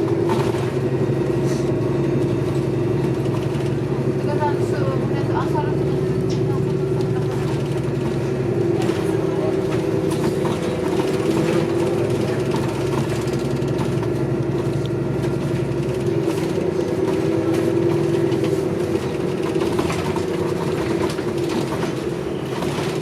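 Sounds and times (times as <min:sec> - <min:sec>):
bus engine drone: 0:00.0 - 0:23.0
rattles and clicks from bus body: 0:00.0 - 0:23.0.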